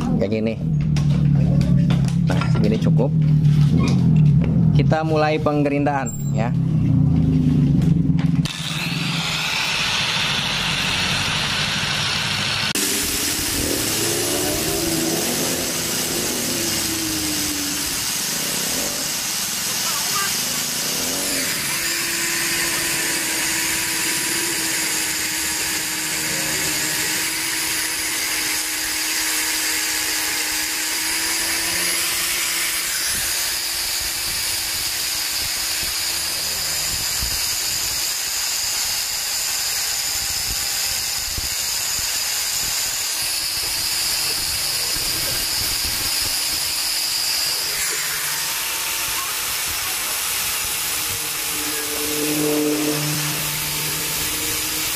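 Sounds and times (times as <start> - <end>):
angle grinder grinding metal: 0.8 - 54.9.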